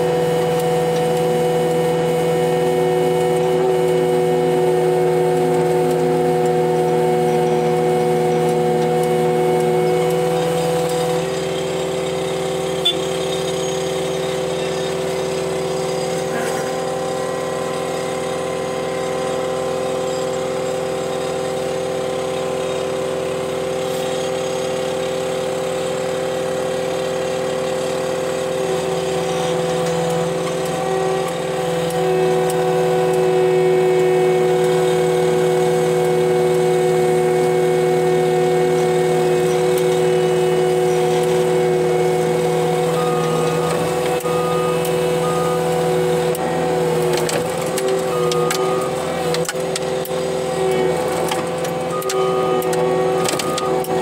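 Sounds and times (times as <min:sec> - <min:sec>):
diesel engine from inside cab: 0:00.0 - 0:54.0.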